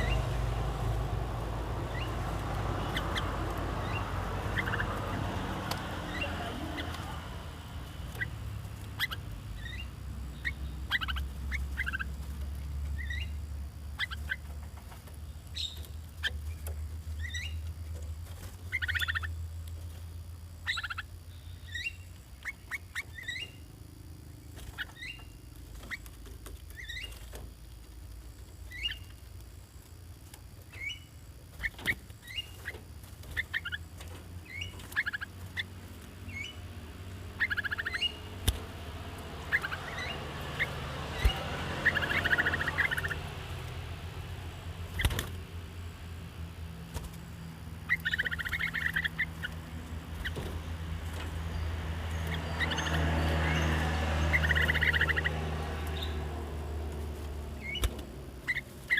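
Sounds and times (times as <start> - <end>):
birds chirping and chattering: 0.0 - 58.9.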